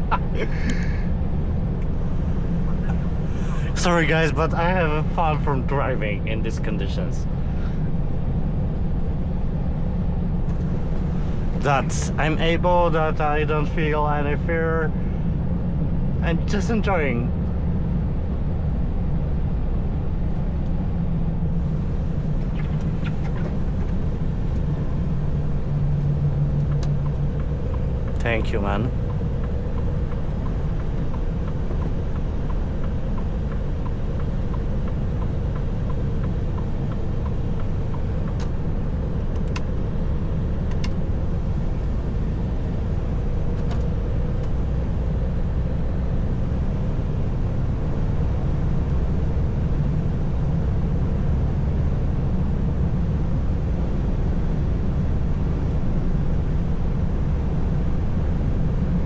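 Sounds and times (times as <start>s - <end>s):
faint hum: 0.0s - 59.0s
truck engine and tyres rumbling: 0.0s - 59.0s.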